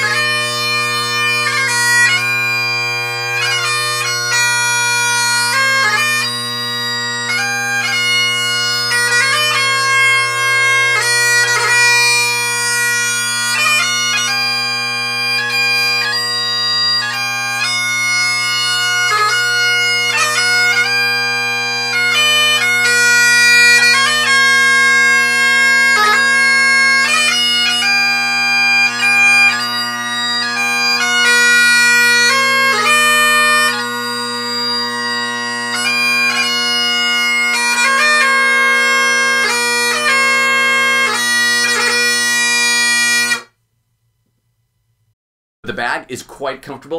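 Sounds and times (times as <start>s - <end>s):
bagpipe playing a tune: 0.0s - 43.5s.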